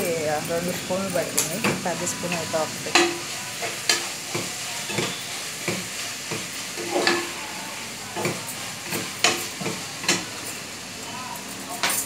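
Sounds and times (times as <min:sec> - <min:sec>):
masala sizzling in oil: 0:00.0 - 0:12.0
metal spoon scraping a pan: 0:00.7 - 0:10.5.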